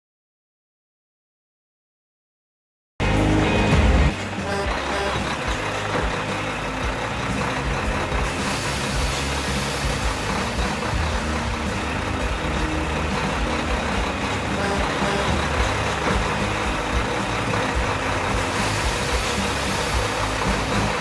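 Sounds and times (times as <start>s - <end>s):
truck engine running: 3.0s - 21.0s.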